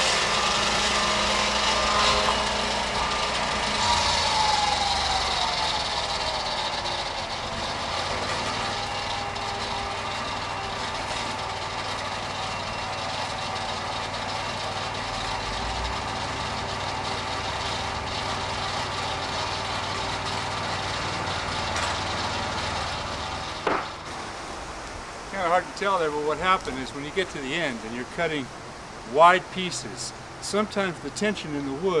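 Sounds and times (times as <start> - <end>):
sawmill engine idling: 0.0 - 32.0.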